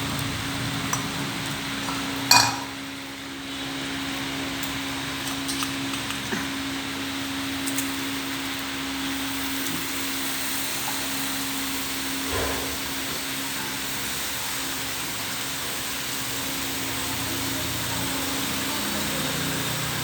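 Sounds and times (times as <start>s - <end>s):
ventilation fan whirring: 0.0s - 20.0s.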